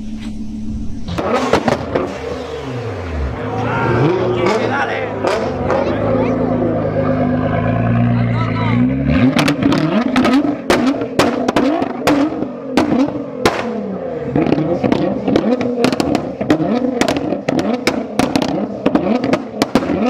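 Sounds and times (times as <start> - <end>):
car engine revving: 0.0 - 20.0
exhaust crackling and popping: 0.0 - 20.0.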